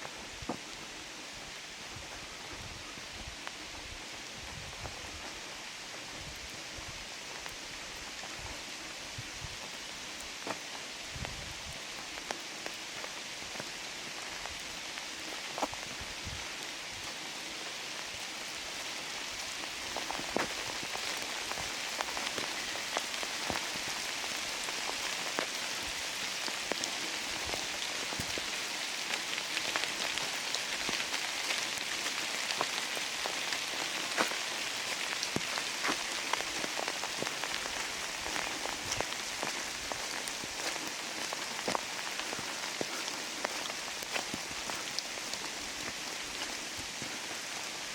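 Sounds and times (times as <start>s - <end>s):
rain falling in forest: 0.0s - 47.9s
raindrops striking nearby: 0.0s - 47.9s.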